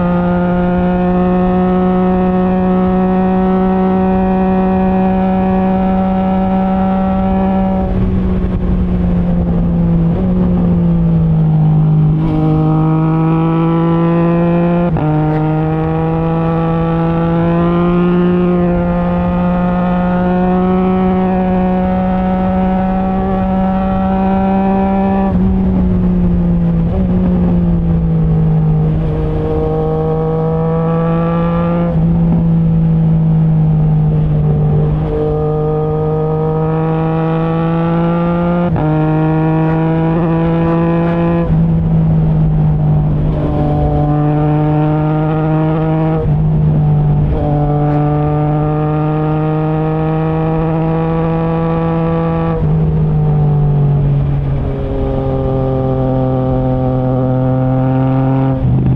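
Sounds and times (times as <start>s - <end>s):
motorcycle engine shifting gears: 0.0s - 58.9s.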